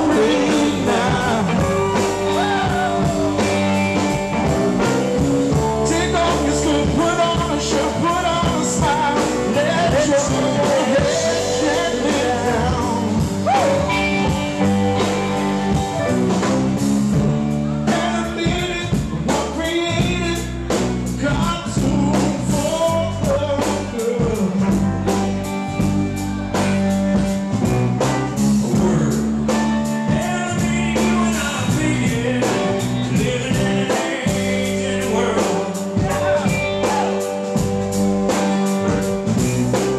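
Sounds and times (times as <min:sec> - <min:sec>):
lead vocal singing: 0:00.0 - 0:15.6, 0:17.6 - 0:25.1, 0:28.6 - 0:37.6
drums: 0:00.0 - 0:39.9
electric guitars: 0:00.0 - 0:39.9
keyboard: 0:00.0 - 0:39.9.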